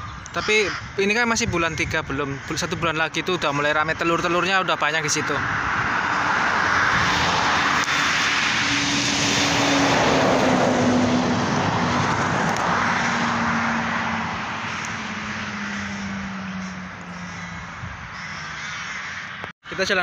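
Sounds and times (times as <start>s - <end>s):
vehicle passing: 2.6s - 19.5s.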